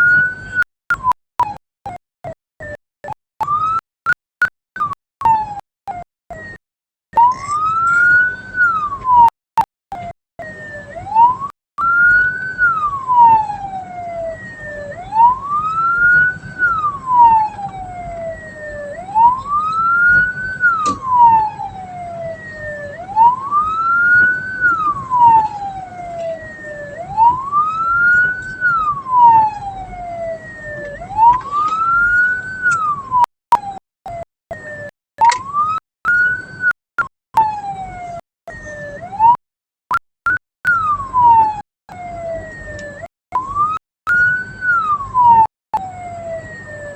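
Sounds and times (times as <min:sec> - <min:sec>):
vehicle siren wailing: 0:00.0 - 0:01.6, 0:04.8 - 0:06.6, 0:07.2 - 0:09.3, 0:09.9 - 0:36.8, 0:37.4 - 0:39.4, 0:40.7 - 0:46.9.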